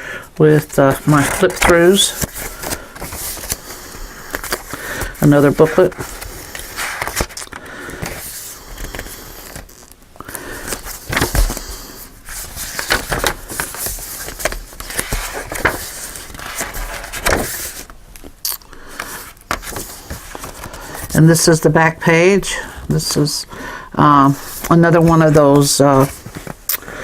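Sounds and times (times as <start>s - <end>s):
paper pages rustling: 0.4s - 21.6s, 24.1s - 27.0s.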